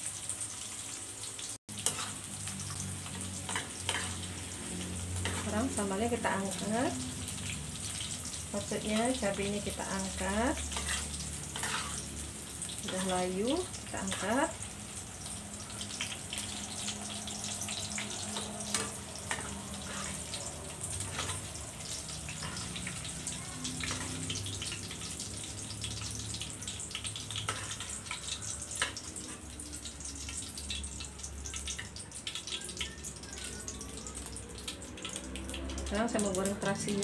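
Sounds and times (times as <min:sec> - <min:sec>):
hot oil sizzling in a wok: 0:00.0 - 0:37.0.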